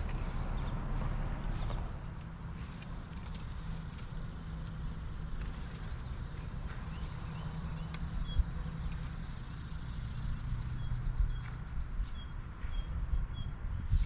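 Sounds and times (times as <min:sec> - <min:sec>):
birds chirping: 0:00.0 - 0:14.0
low engine hum: 0:00.0 - 0:14.0.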